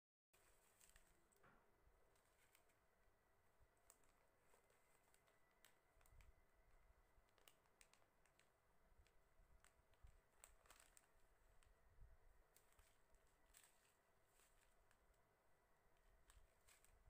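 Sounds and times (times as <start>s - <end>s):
plastic packets clicking and crinkling: 0.4s - 17.0s.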